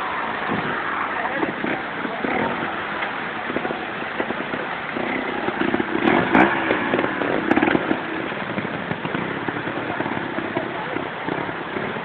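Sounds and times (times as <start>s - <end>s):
motorcycle engine throttle blips: 0.0s - 12.0s.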